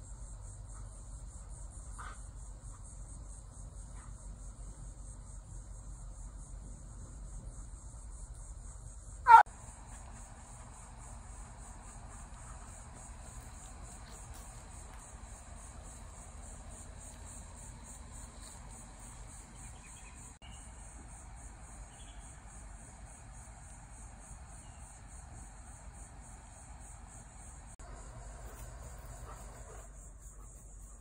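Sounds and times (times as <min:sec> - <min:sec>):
insects chorus: 0:00.0 - 0:31.0.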